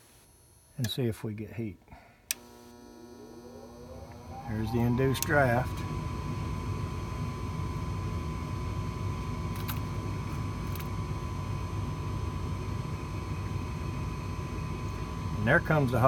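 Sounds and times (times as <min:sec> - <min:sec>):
furnace motor rumble and whine: 0:02.3 - 0:16.0.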